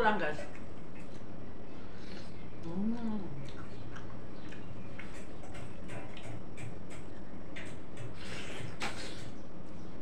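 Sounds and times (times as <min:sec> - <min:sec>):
person chewing wetly: 0:00.5 - 0:09.2.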